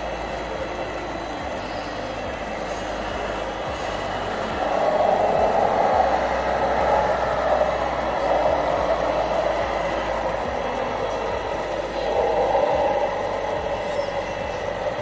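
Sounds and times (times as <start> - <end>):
model truck running: 0.0 - 15.0.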